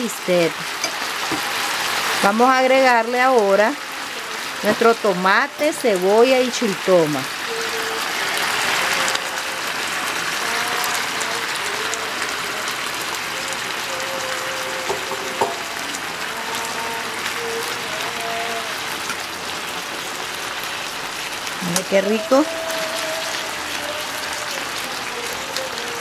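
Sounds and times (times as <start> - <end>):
steaks sizzling in skillet: 0.0 - 26.0.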